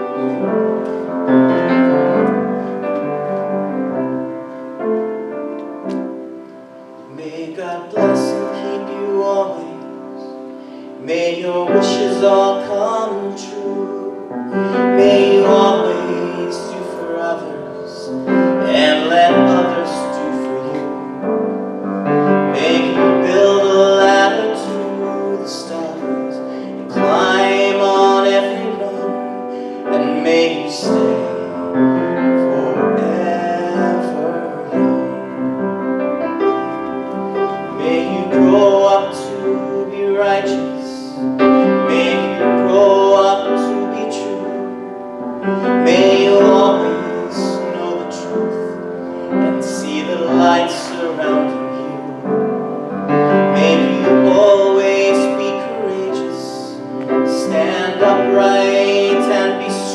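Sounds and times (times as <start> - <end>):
man singing slow song: 0.0 - 59.9
piano accompaniment: 0.0 - 59.9.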